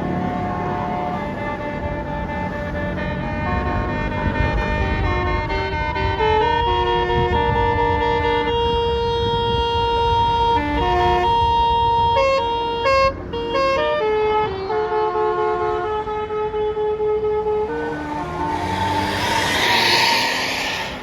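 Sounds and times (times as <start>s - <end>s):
multi-tone bus horn melody: 0.0s - 19.9s
bus engine rumble: 0.0s - 21.0s.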